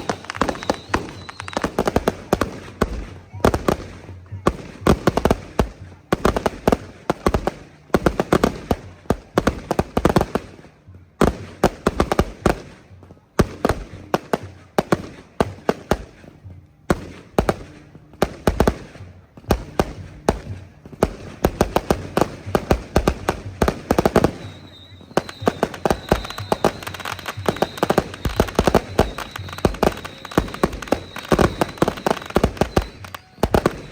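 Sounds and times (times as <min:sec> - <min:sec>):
firecrackers banging: 0:00.0 - 0:33.9.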